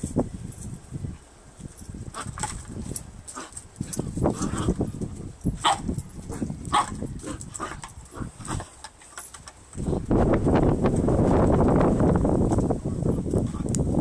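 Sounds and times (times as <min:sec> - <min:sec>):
wind rumbling on microphone: 0:00.0 - 0:08.8, 0:09.7 - 0:14.0.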